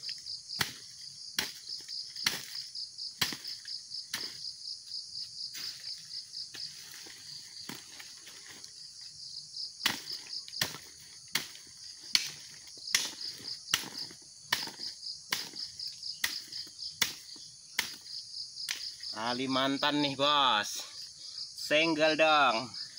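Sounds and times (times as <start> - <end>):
insect chirping trill: 0.0 - 22.9.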